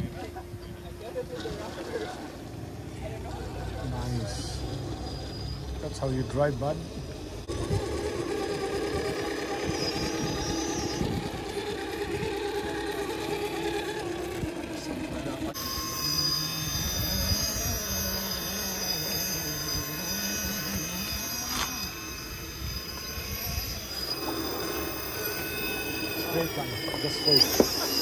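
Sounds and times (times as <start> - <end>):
toy car electric motors whining: 3.3 - 28.0.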